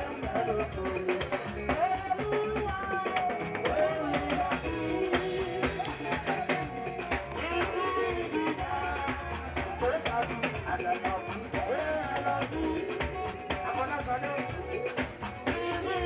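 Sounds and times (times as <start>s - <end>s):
drum kit and guitar music: 0.0s - 16.0s
person singing: 0.0s - 16.0s.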